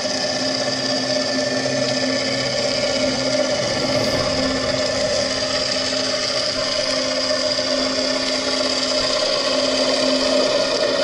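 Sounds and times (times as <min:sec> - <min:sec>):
mechanical hum underwater: 0:00.0 - 0:11.0.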